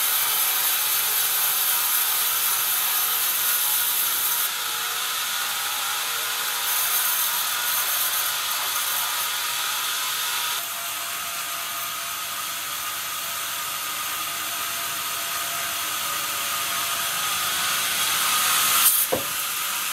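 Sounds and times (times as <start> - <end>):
band saw running: 0.0 - 19.9.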